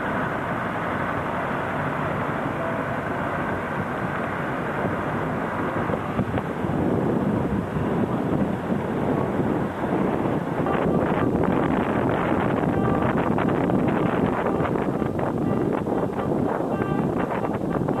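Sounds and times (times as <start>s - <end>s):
bicycle road noise: 0.0s - 18.0s
wind rushing: 3.4s - 18.0s.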